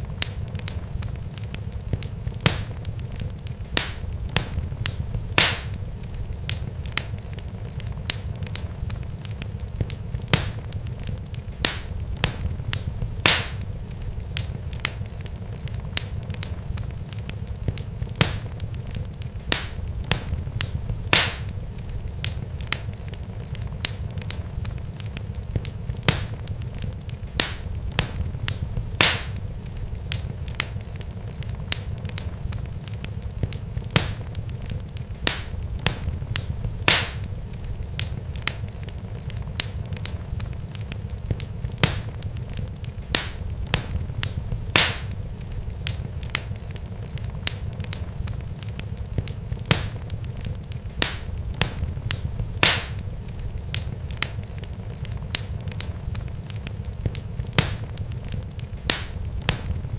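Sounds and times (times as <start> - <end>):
sharp pops and crackles: 0.0 - 59.9.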